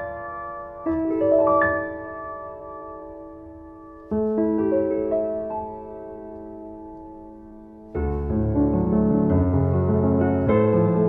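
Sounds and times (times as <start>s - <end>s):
piano chord: 0.0s - 11.0s.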